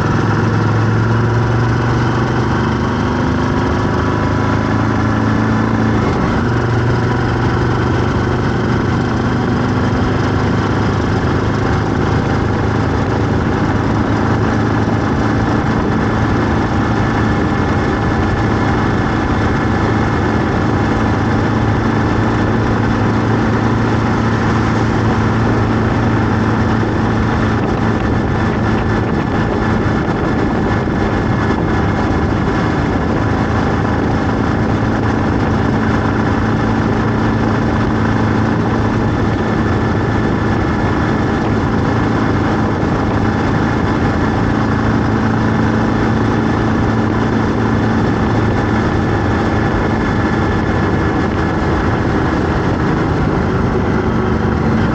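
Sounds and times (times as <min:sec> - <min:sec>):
vehicle engine running steadily: 0:00.0 - 0:54.9.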